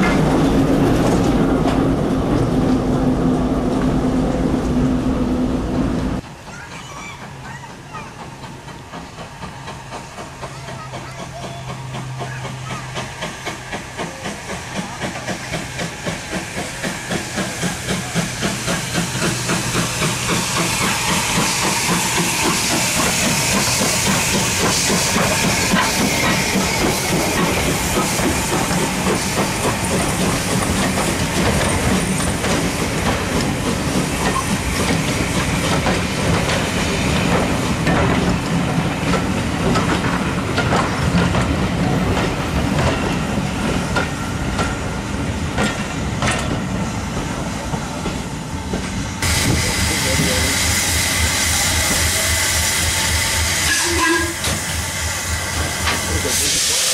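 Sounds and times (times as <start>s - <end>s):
steam locomotive exhaust beats: 0.0s - 56.9s
train wheels clattering: 6.2s - 56.9s
loud hiss of steam: 8.2s - 56.9s.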